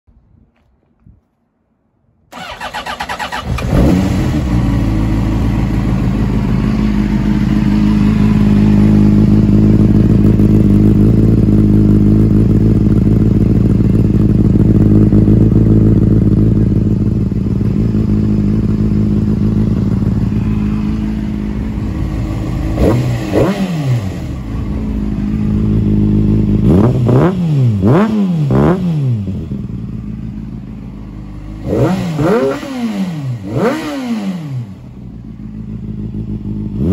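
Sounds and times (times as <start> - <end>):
motorcycle engine idling and revving: 2.3 - 36.9.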